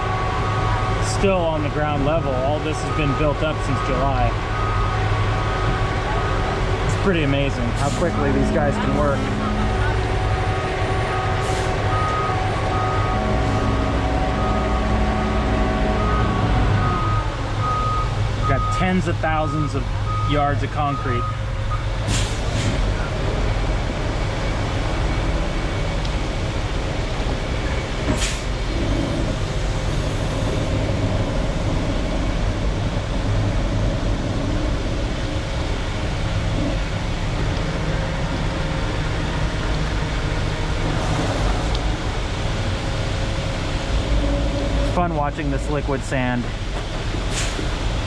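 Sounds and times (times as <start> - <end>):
concrete mixer truck running: 0.0 - 48.0.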